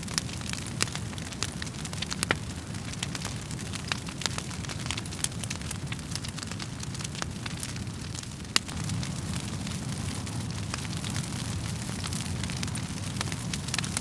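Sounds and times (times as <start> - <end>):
burning wood popping and snapping: 0.0 - 14.0
flames rumbling: 0.0 - 14.0.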